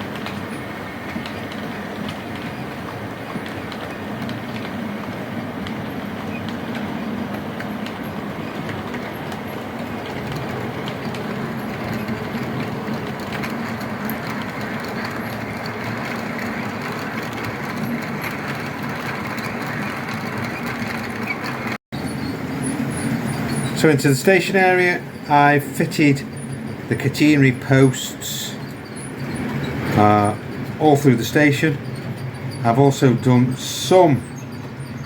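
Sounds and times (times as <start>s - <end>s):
wheels rumbling on rails: 0.0s - 35.0s.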